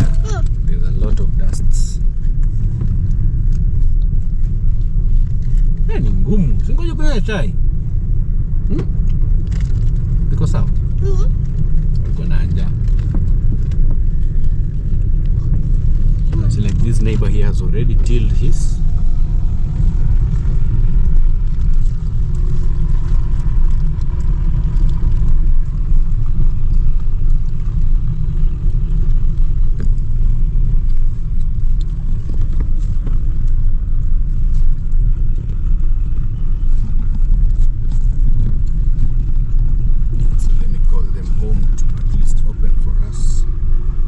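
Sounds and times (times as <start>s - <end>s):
vehicle rumbling: 0.0s - 44.0s.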